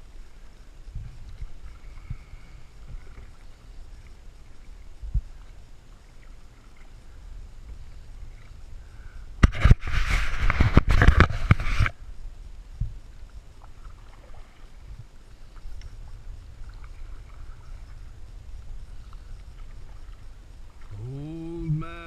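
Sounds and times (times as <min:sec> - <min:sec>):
faint water sounds: 0:00.0 - 0:22.0
paddle splashing water: 0:00.0 - 0:22.0.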